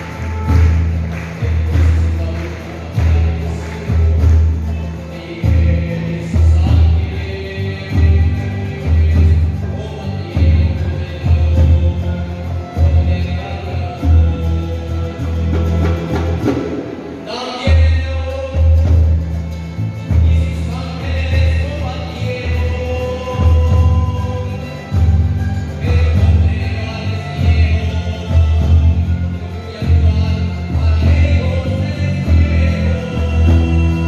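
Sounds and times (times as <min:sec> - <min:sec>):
song with singing: 0:00.0 - 0:34.0.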